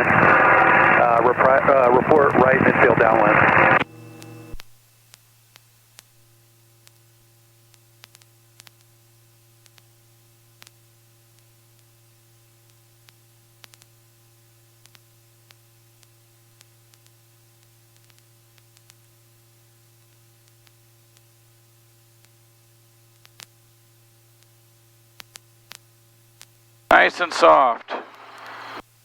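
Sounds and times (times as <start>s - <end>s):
electrical hum and hiss: 0.0s - 29.0s.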